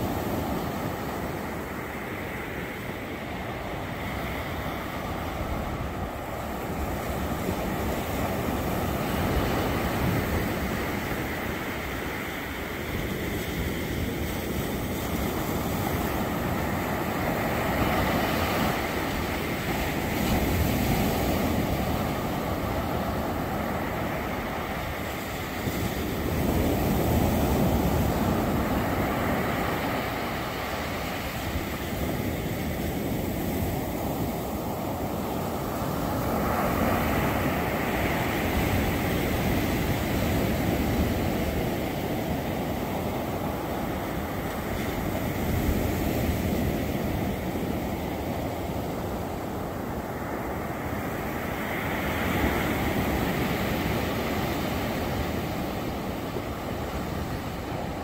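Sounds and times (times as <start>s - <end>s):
waves breaking on sandy beach: 0.0s - 58.0s.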